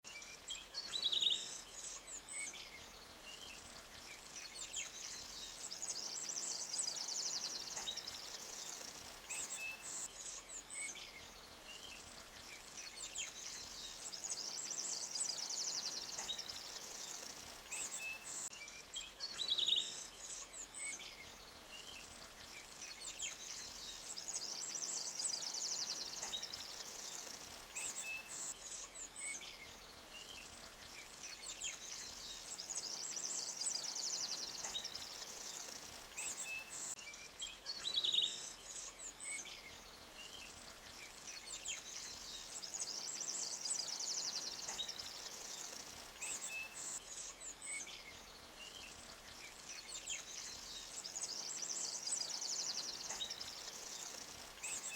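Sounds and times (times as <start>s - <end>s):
small birds chirping and trilling: 0.0s - 54.9s
flowing creek water: 0.4s - 18.5s, 20.0s - 37.0s, 38.6s - 54.9s.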